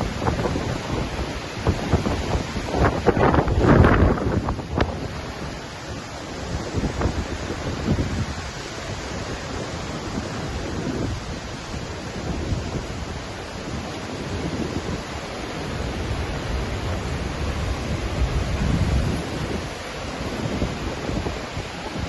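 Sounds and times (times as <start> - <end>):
waterfall roaring: 0.0 - 22.0
wind on microphone: 0.0 - 22.0.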